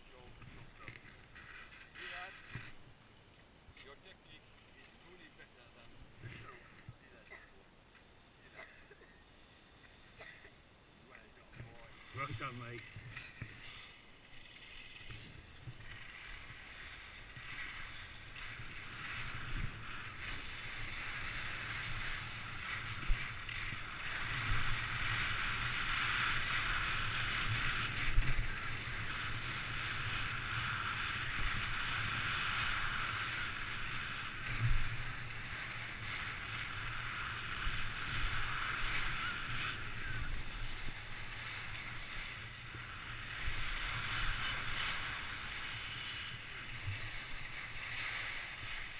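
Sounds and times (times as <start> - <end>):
skis scraping over snow: 0.0 - 3.2, 3.8 - 7.5, 8.1 - 48.9.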